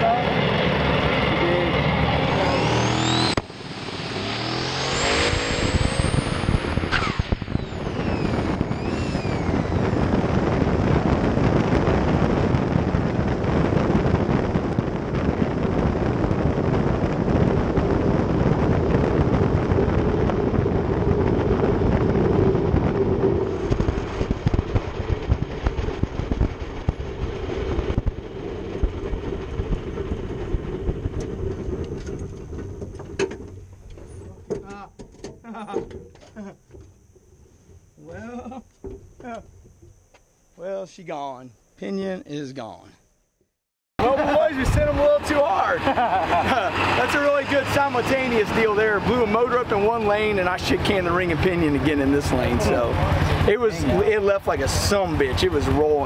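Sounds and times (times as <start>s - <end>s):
engine accelerating hard: 0.0s - 34.5s, 44.0s - 56.0s.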